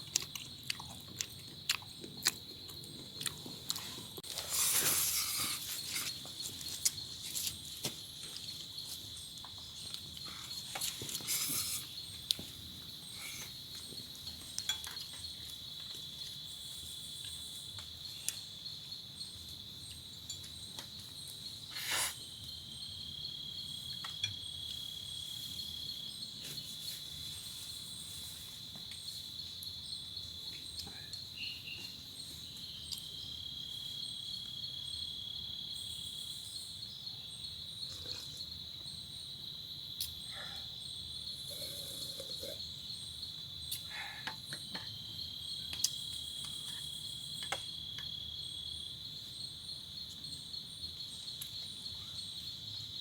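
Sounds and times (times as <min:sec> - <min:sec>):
insect chorus chirring: 0:00.0 - 0:53.0.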